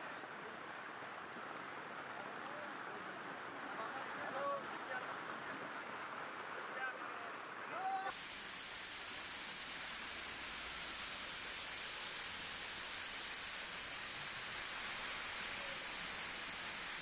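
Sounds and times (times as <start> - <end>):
rushing floodwater: 0.2 - 17.0.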